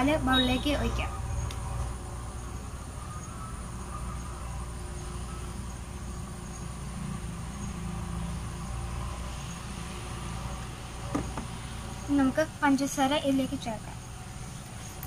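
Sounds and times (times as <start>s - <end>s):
insects chirping: 0.0s - 15.0s
low hum: 0.0s - 15.0s.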